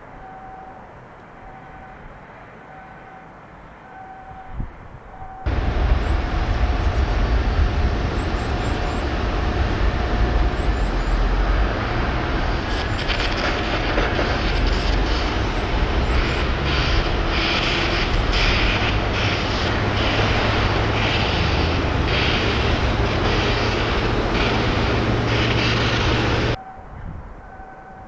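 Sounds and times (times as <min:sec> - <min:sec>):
outdoor rumble and hiss: 0:00.0 - 0:28.0.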